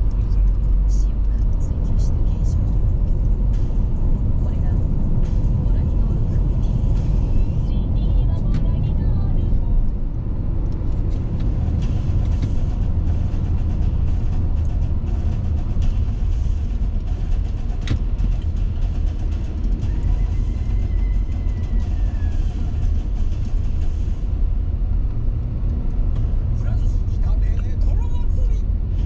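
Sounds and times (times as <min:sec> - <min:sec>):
car cabin road and engine rumble: 0:00.0 - 0:29.0.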